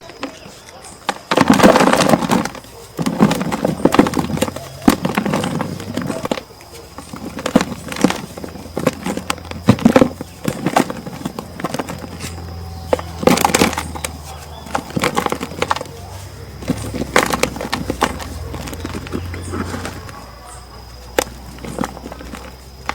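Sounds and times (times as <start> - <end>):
cement chunks crunching: 0.0 - 22.9.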